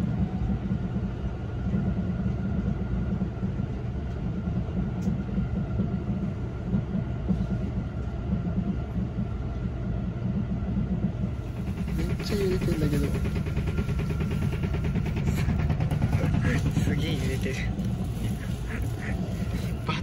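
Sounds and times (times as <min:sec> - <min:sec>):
train interior rumble: 0:00.0 - 0:20.0.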